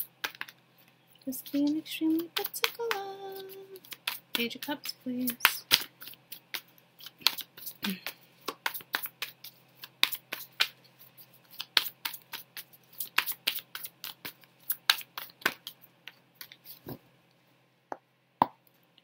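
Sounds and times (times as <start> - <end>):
cards being shuffled: 0.2 - 0.6, 1.5 - 17.0.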